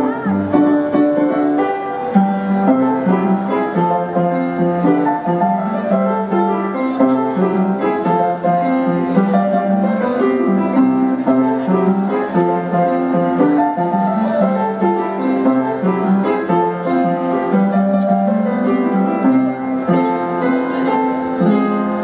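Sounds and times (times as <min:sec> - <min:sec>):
piano playing: 0:00.0 - 0:22.0.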